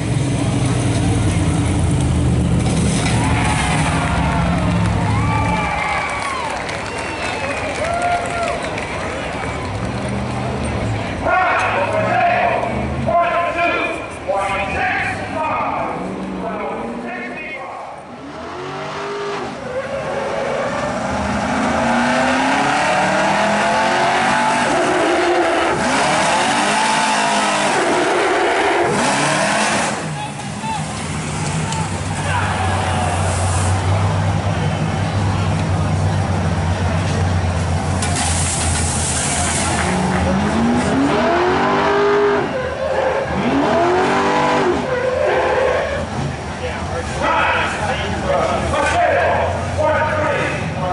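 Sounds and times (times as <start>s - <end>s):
fire truck engine revving: 0.0s - 7.9s, 18.0s - 50.9s.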